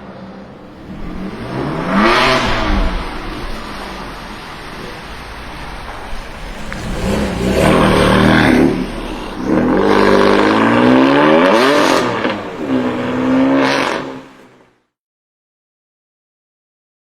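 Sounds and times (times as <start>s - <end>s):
car engine accelerating hard: 0.0s - 14.8s.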